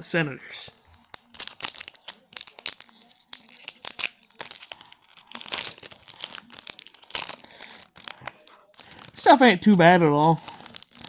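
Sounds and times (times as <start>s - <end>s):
plastic wrapper crinkling: 0.3s - 11.0s.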